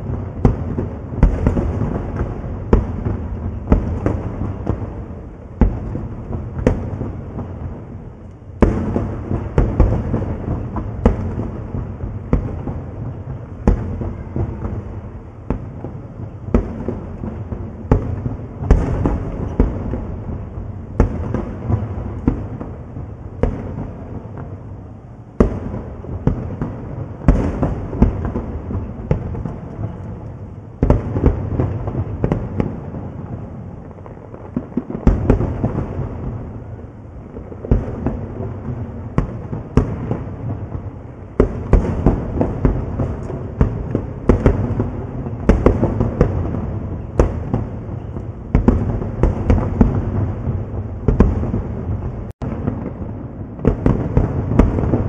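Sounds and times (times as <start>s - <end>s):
low rumble of echoing explosions: 0.0s - 55.0s.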